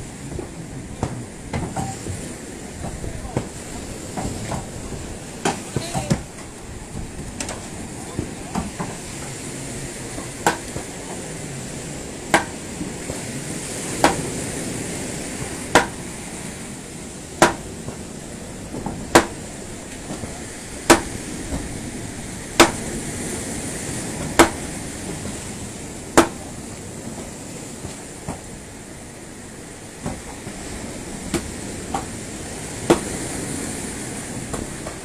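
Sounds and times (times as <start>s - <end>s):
surf washing: 0.0s - 35.0s.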